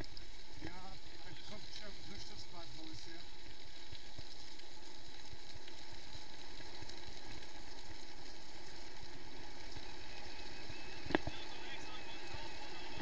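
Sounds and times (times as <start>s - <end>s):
bike tyres rolling on gravel: 0.0s - 13.0s.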